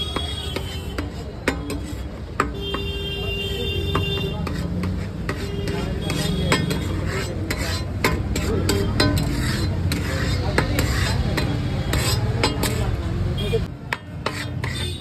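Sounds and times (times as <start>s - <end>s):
metal ladle scraping pan: 0.0s - 2.8s, 3.8s - 15.0s.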